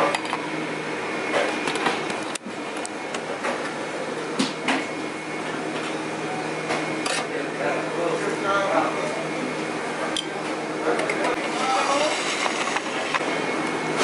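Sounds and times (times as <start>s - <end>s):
restaurant background hum: 0.0s - 14.0s.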